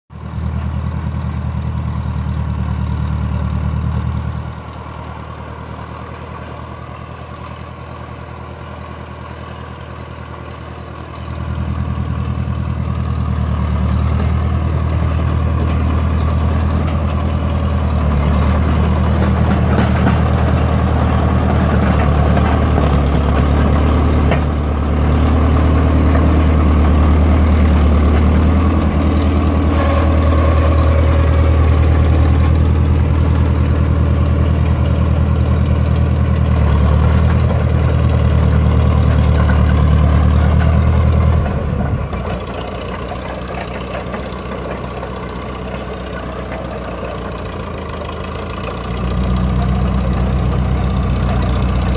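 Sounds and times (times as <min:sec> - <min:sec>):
dozer diesel engine running: 0:00.1 - 0:51.9.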